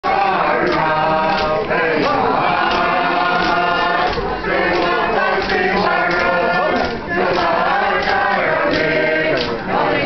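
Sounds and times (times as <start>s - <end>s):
group chanting: 0.0s - 10.0s.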